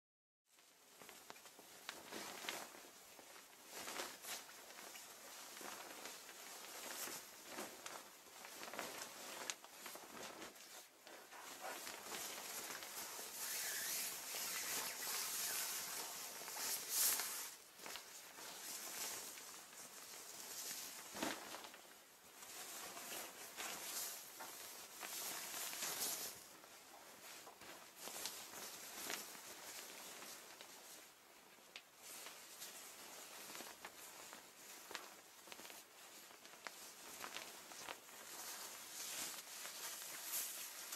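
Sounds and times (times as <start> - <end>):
synthetic fabric rustling: 0.5 - 40.9.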